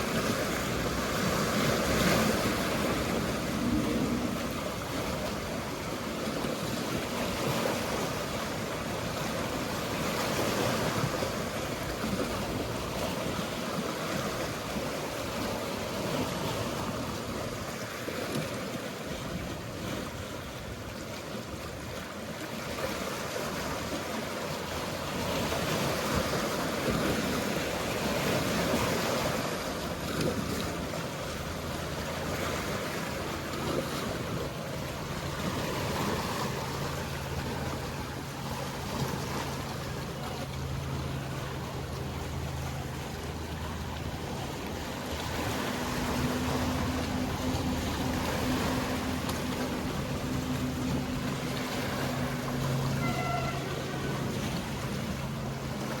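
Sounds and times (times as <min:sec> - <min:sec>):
sea waves washing on shore: 0:00.0 - 0:56.0.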